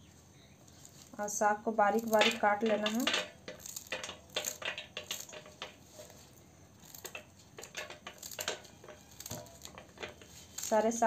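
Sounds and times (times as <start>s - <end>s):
pieces dropping into steel bowl: 1.9s - 11.0s.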